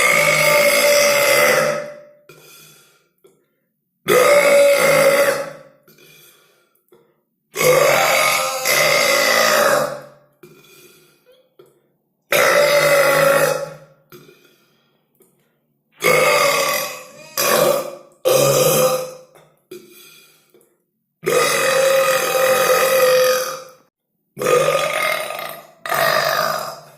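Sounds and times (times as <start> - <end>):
loud human belches: 0.0 - 2.8, 4.1 - 6.3, 7.5 - 14.6, 16.0 - 20.3, 21.2 - 26.9.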